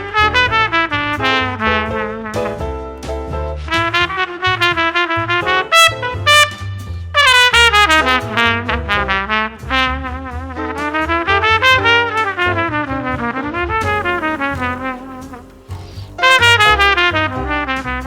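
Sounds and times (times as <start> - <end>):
upright bass walking: 0.0 - 6.7, 7.6 - 18.0
drums: 0.0 - 18.0
jazz trumpet solo: 0.0 - 18.0
piano: 0.0 - 18.0.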